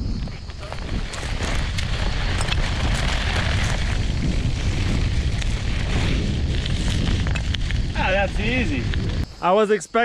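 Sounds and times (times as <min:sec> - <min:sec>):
wind buffeting microphone: 0:00.0 - 0:09.4
skate wheels rolling on dirt: 0:00.0 - 0:09.6.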